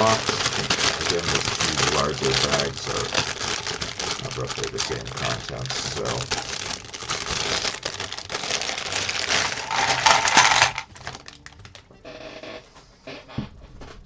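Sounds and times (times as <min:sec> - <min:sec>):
plastic bag crinkling: 0:00.0 - 0:12.0
plastic pieces clattering: 0:00.0 - 0:12.0.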